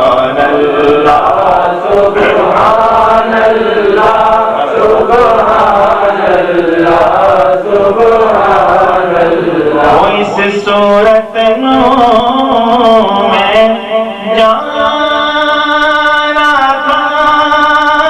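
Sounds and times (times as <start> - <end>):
man singing through a microphone: 0.0 - 18.0.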